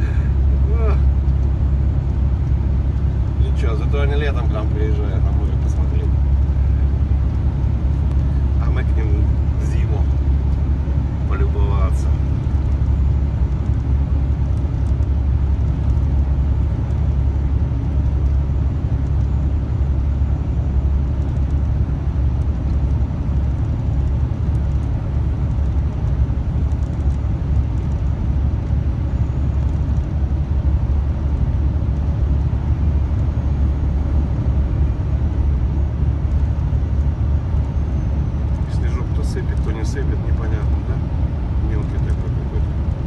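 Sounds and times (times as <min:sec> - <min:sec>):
road noise: 0:00.0 - 0:43.0
truck diesel engine drone: 0:00.0 - 0:43.0.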